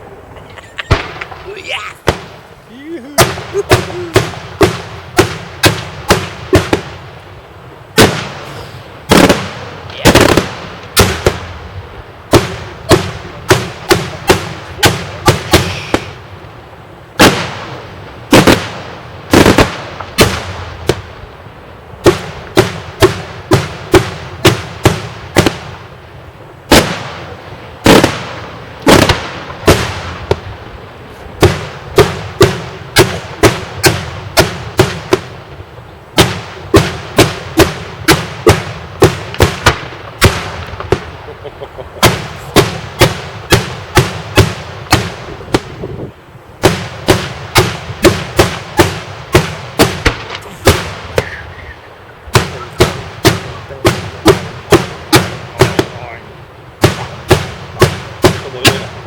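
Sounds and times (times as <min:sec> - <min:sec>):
fireworks banging with echoes: 0:00.0 - 0:59.0.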